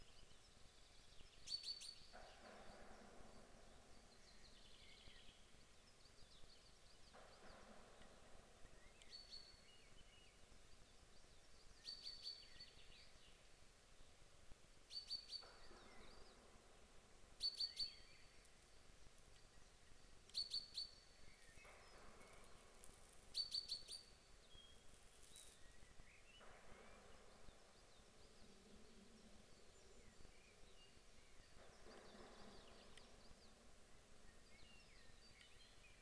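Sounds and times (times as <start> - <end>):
background noise: 0.0 - 36.0
songbird singing: 0.0 - 36.0.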